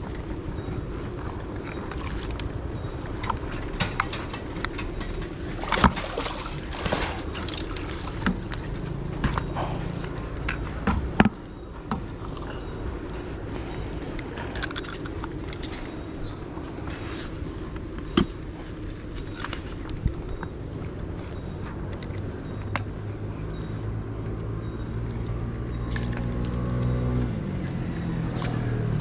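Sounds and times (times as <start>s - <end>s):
water splashing and sloshing: 0.0s - 23.7s
steady low hum: 0.0s - 29.0s.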